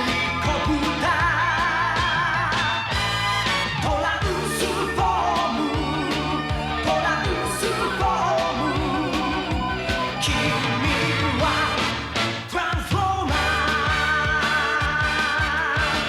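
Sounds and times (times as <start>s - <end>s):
person singing with vibrato: 0.0s - 2.9s, 3.7s - 16.0s
pop-rock band playing: 0.0s - 16.0s.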